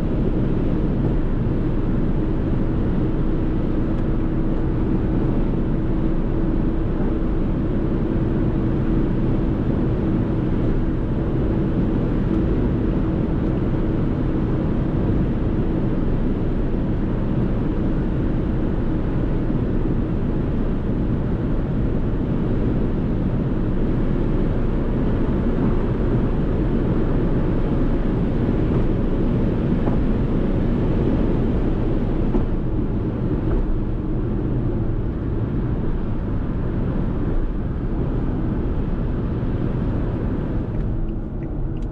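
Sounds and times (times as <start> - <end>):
car engine at constant speed: 0.0 - 41.9.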